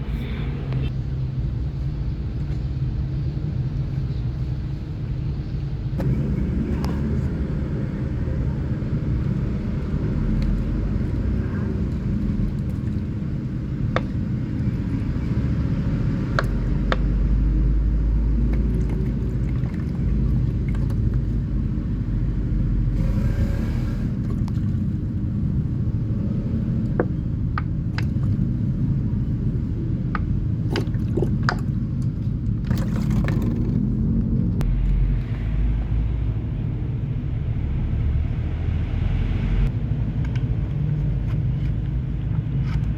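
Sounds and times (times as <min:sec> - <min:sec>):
washing machine motor hum: 0:00.0 - 0:37.6.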